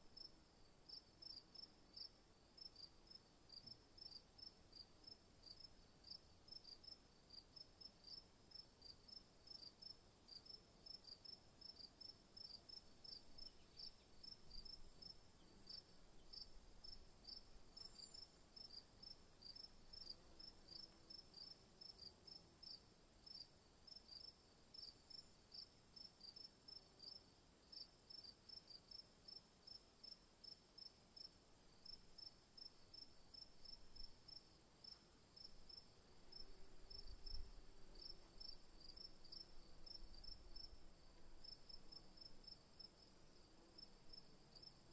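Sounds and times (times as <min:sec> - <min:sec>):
insect chirping: 0:08.0 - 0:44.9.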